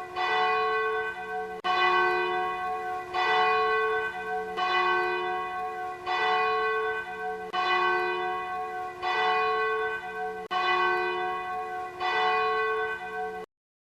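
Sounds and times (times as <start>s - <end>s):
church bell tolling: 0.0s - 13.5s.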